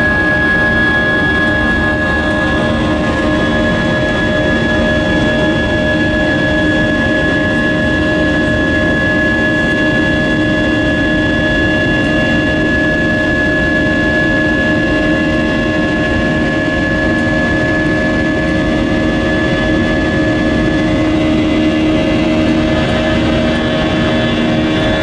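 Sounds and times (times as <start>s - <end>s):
jet engine roar in cabin: 0.0s - 25.0s
steady whining tones: 0.0s - 25.0s.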